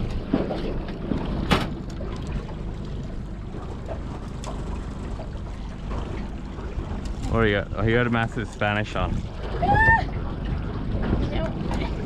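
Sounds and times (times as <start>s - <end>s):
water noise around boat: 0.0s - 12.0s
wind: 0.0s - 12.0s.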